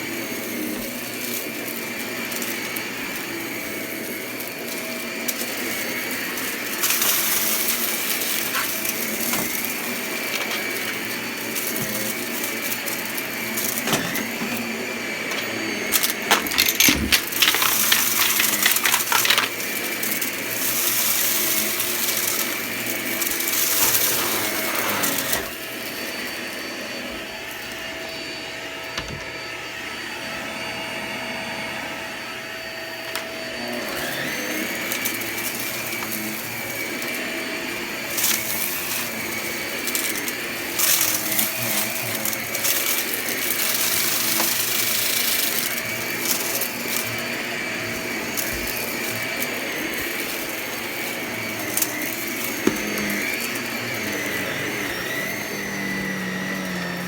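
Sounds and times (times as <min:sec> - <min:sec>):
vacuum cleaner motor whine: 0:00.0 - 0:57.0
debris crackling in vacuum: 0:03.6 - 0:26.5, 0:33.6 - 0:57.0.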